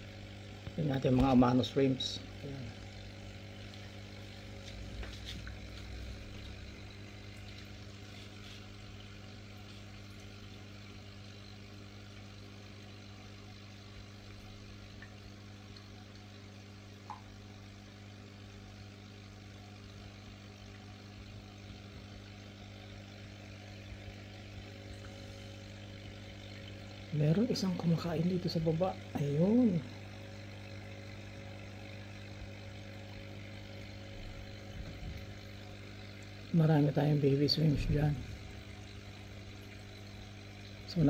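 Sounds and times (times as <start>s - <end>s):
aquarium equipment humming: 0.0s - 41.0s
air bubbles fizzing: 0.2s - 18.4s, 19.0s - 41.0s.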